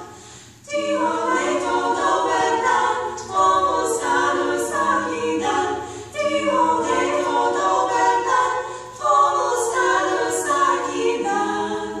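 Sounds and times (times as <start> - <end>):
women singing in harmony: 0.0 - 12.0.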